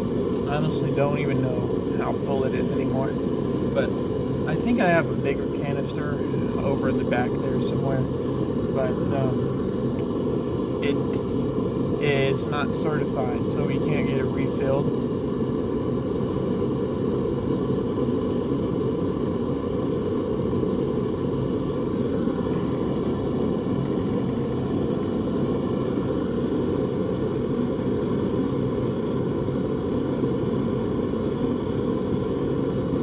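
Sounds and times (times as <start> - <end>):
forge burner roaring: 0.0 - 33.0.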